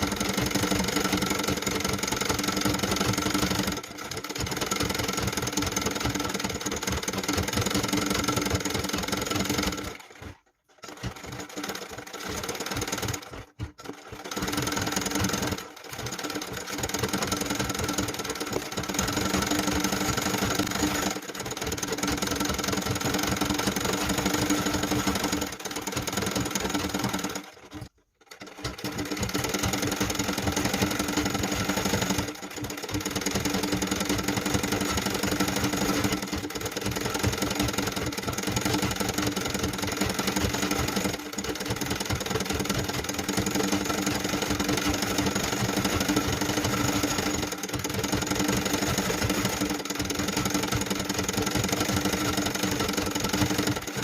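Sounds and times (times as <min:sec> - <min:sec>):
sewing machine stitching: 0:00.0 - 0:54.0.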